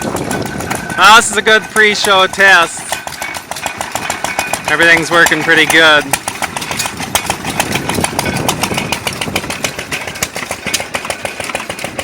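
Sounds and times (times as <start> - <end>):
old gas engines clattering: 0.0 - 12.0.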